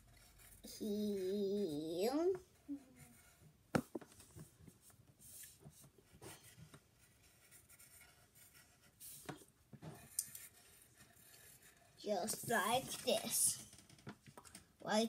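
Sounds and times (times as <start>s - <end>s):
pencil scratching on paper: 0.0s - 3.6s, 4.8s - 13.5s.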